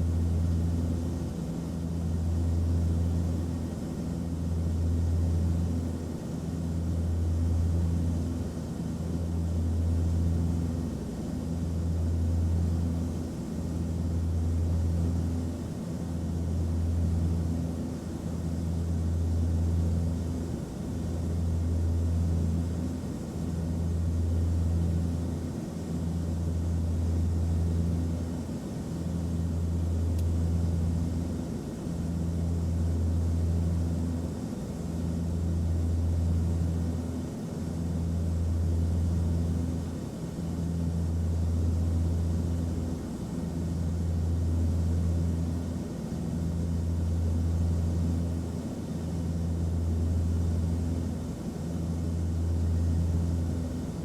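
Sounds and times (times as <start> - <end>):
airliner cabin rumble and hiss: 0.0 - 54.0.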